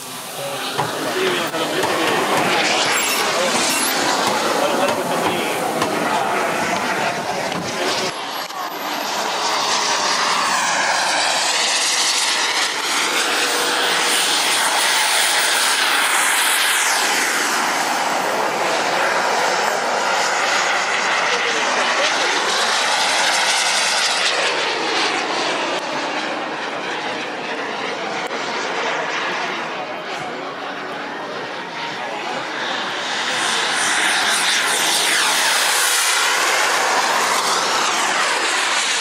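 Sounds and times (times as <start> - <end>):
model jet turbine roar and whine: 0.0 - 39.0.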